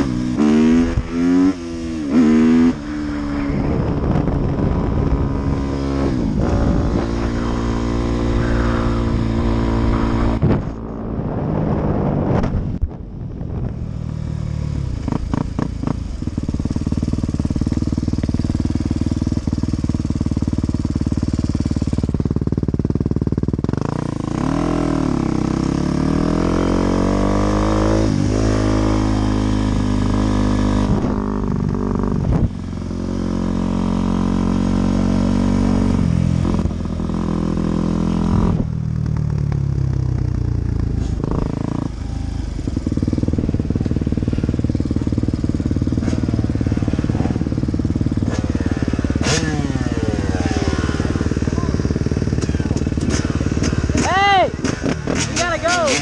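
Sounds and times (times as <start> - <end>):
second dirt bike engine: 0.0 - 12.4, 13.8 - 56.0
dirt bike engine accelerating: 0.0 - 56.0.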